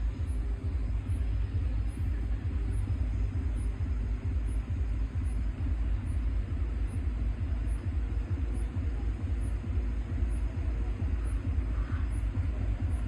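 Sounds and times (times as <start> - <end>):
bass-heavy electronic dance music: 0.0 - 13.0.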